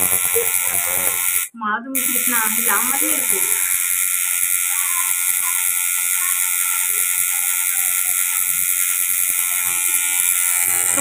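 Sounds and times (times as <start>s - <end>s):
tattoo machine buzzing: 0.0s - 11.0s.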